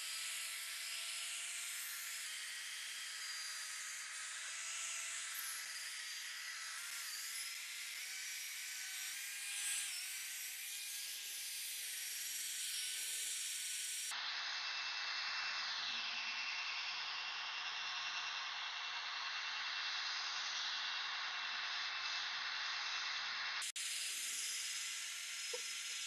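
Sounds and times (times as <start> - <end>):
electric drill motor whine: 0.0 - 26.0.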